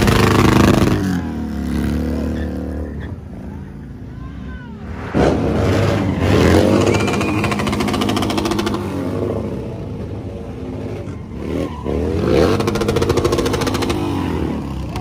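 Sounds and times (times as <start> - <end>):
motorcycle engine revving: 0.0 - 3.3, 5.0 - 15.0.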